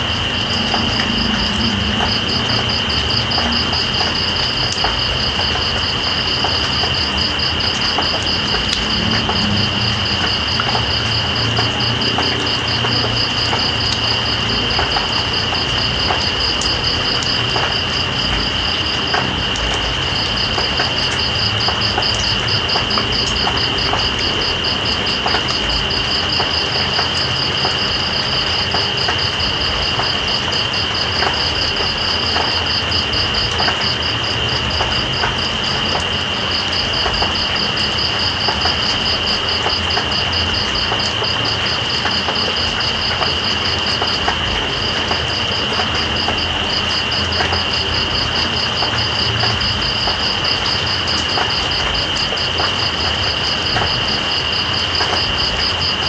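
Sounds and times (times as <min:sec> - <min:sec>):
insect high drone: 0:00.0 - 0:56.0
raindrops ticking: 0:00.0 - 0:56.0
steady rain hiss: 0:00.0 - 0:56.0.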